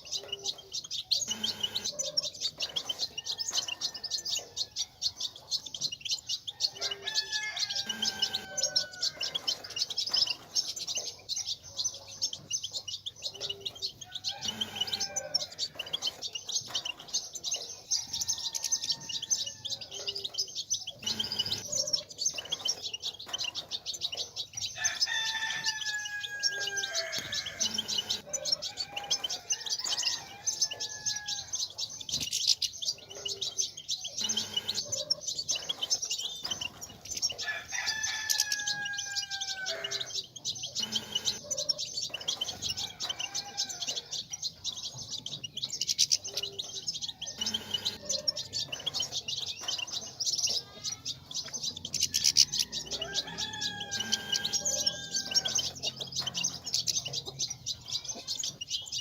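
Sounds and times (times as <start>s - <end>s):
goldfinches twittering: 0.0s - 59.0s.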